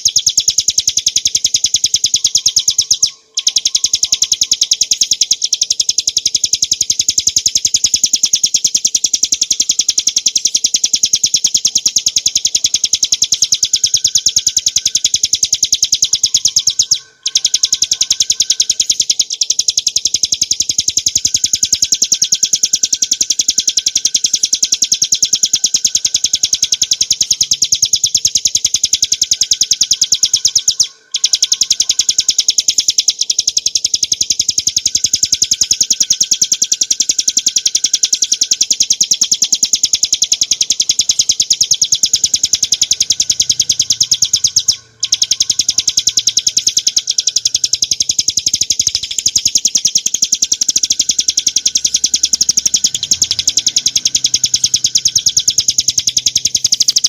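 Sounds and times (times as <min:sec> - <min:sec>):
bird singing high sharp chirps: 0:00.0 - 0:57.0.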